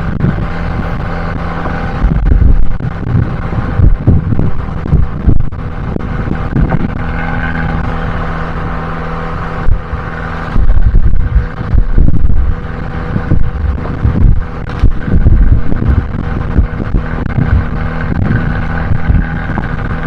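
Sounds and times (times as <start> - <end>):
car engine running: 0.0 - 20.0
low rumbling and buffeting: 0.0 - 20.0.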